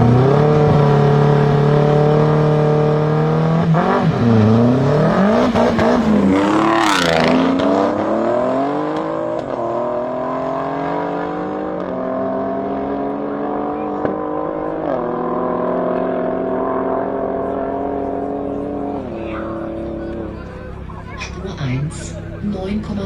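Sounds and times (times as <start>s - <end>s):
car accelerating past: 0.0s - 23.0s
car engine revving: 0.0s - 23.0s.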